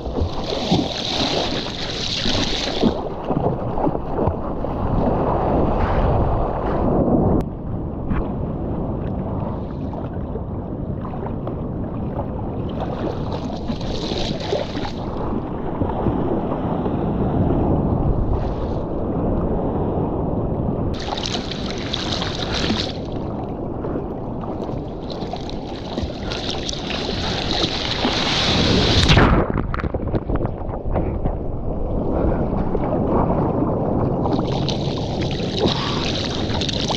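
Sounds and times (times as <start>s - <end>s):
sea water rushing and splashing: 0.0s - 7.4s, 8.4s - 20.0s, 20.6s - 30.2s, 31.7s - 36.9s
wind buffeting microphone: 0.0s - 36.9s.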